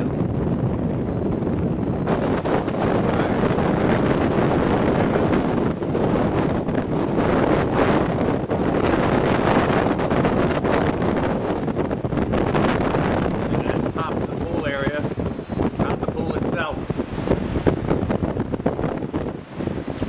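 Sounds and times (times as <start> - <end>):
hurricane wind buffeting microphone: 0.0 - 20.0.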